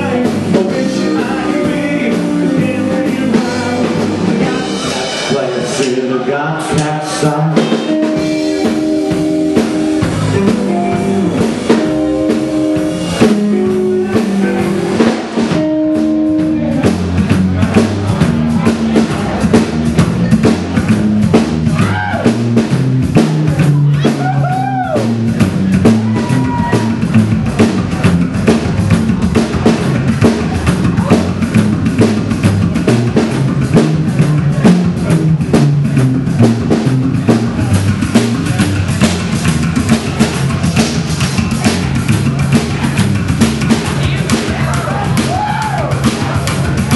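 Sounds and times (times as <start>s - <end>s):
drum kit beat: 0.0s - 46.9s
electric guitar: 0.0s - 46.9s
upright double bass: 0.0s - 46.9s.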